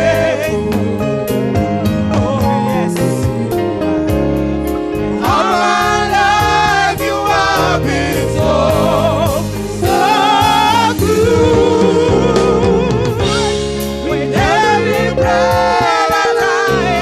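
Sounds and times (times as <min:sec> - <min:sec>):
gospel singing: 0:00.0 - 0:17.0
instrumental backing and beat: 0:00.0 - 0:17.0.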